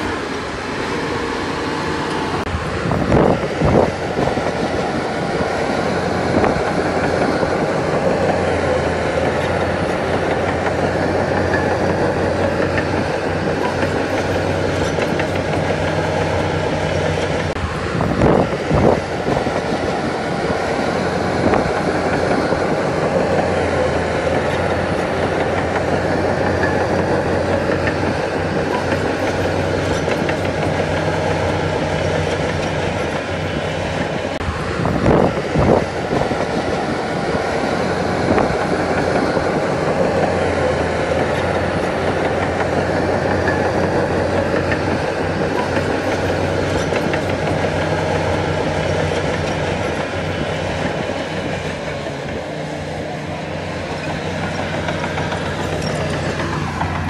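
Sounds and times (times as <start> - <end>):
diesel engine under load: 0.0 - 57.0
steel tracks clanking: 0.0 - 57.0.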